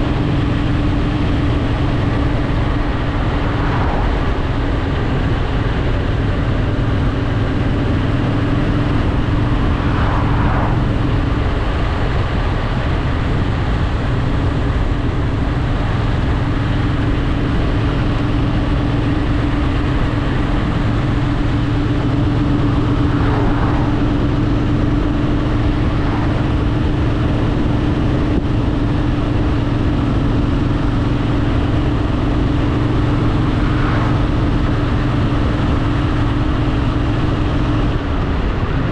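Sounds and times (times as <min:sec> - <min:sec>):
motorcycle engine running steadily: 0:00.0 - 0:38.9
wind noise: 0:00.0 - 0:38.9.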